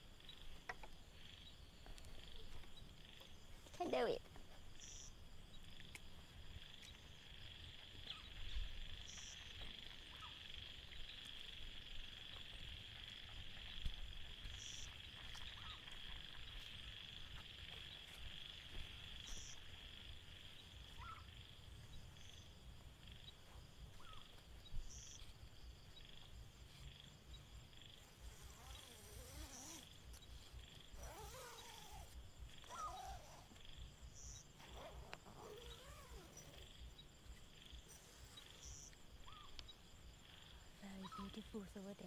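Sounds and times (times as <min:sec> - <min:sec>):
night insects and frogs chorus: 0:00.0 - 0:42.0.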